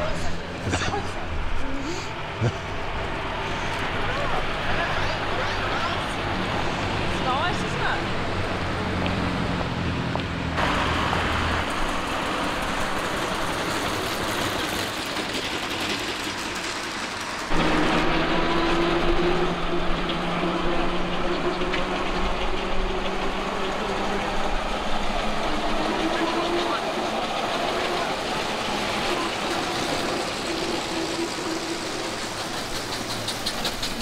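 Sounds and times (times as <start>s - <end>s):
steady engine drone: 0.0s - 34.0s.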